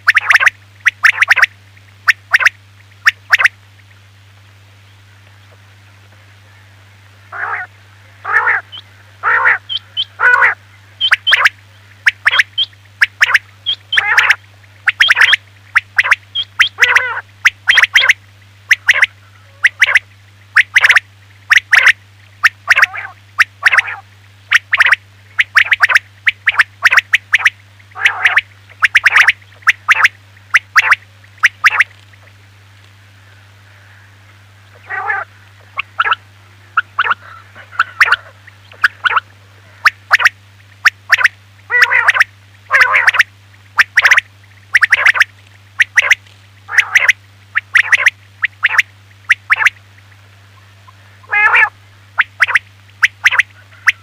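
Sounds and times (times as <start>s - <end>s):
quail calling: 0.0s - 3.6s, 6.4s - 32.4s, 33.0s - 54.0s
steady low hum: 0.0s - 54.0s.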